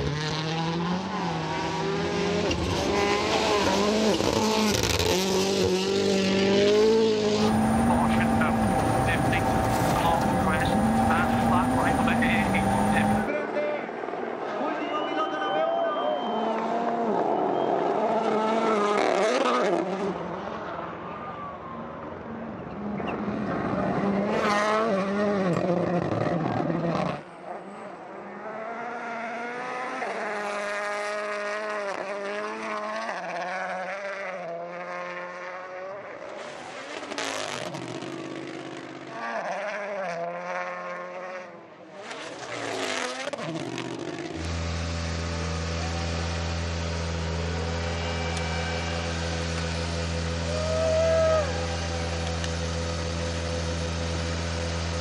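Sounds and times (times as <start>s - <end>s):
rally car engines revving: 0.0s - 13.3s, 16.2s - 55.0s.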